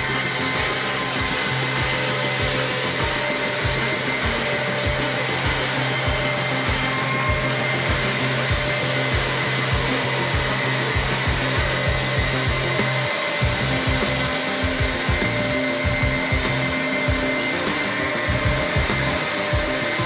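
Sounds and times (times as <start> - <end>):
electric chainsaw cutting boards: 0.0 - 20.0
motor hum: 0.0 - 20.0.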